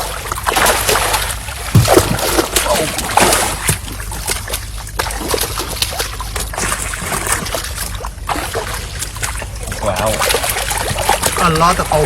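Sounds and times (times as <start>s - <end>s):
steady low hum: 0.0s - 12.0s
water splashing and trickling: 0.0s - 12.0s.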